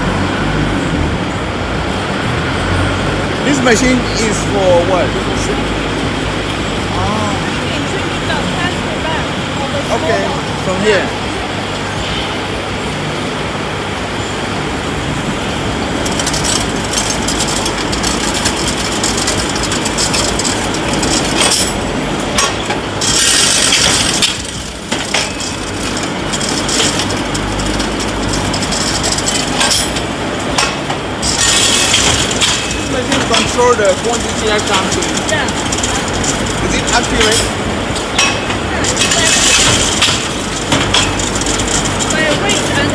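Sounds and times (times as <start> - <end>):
machinery clattering and humming: 0.0 - 42.9.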